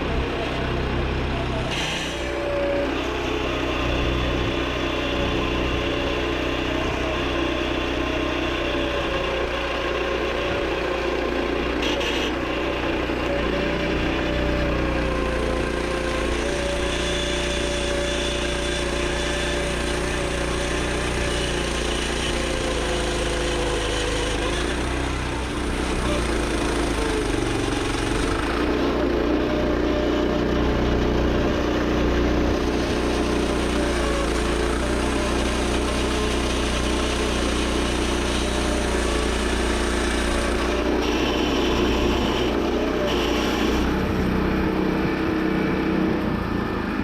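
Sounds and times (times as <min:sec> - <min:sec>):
gasoline engine whining: 0:00.0 - 0:47.0.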